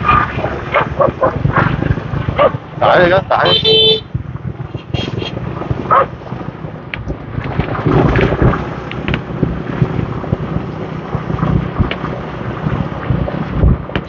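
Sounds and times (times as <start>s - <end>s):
motorbike engine hum: 0.0s - 14.0s
motorbike traffic: 0.0s - 14.0s
wind buffeting microphone: 0.0s - 14.0s.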